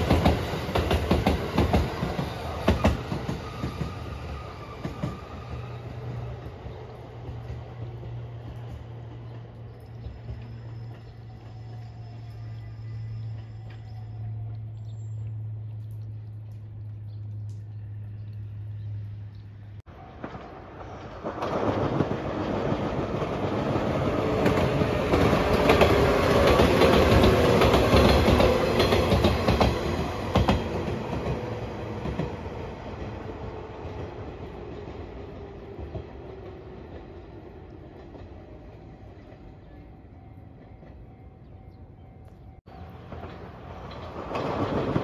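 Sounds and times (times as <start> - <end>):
electric train passing: 0.0 - 14.7, 19.9 - 45.0.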